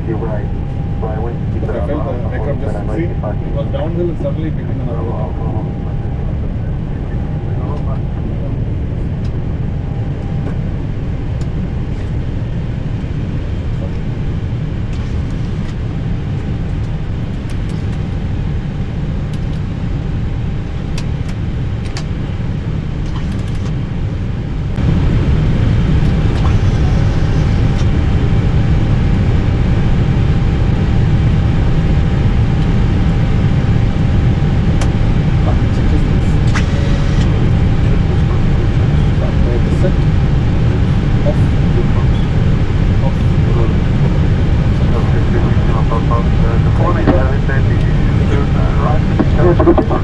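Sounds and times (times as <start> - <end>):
aircraft cockpit low rumble: 0.0 - 50.0.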